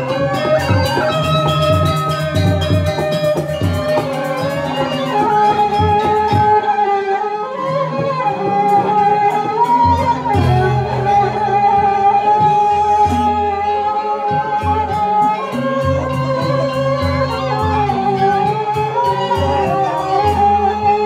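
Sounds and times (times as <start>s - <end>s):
gamelan music: 0.0s - 21.0s.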